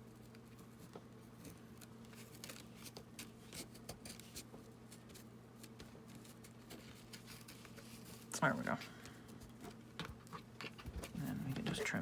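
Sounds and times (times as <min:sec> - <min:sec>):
steady low hum: 0:00.0 - 0:12.0
paper rustling and tapping: 0:00.2 - 0:08.2, 0:09.0 - 0:12.0.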